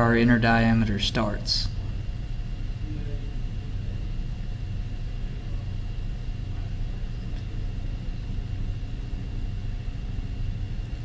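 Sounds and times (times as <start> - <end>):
faint high whine: 0.0 - 11.0
low machine-shop hum: 0.0 - 11.0.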